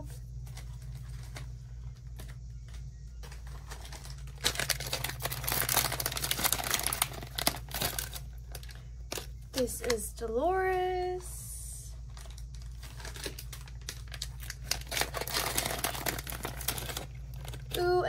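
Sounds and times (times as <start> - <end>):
steady low hum: 0.0 - 18.0
foil bag crinkling and tearing: 0.4 - 2.3, 3.2 - 11.2, 11.9 - 18.0.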